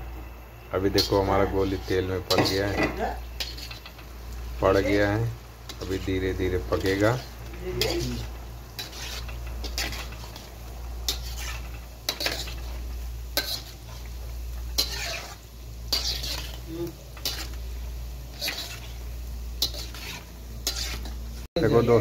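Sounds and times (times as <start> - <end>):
oil sizzling in wok: 0.0 - 22.0
metal ladle stirring: 0.9 - 4.1, 5.7 - 17.6, 18.2 - 21.2.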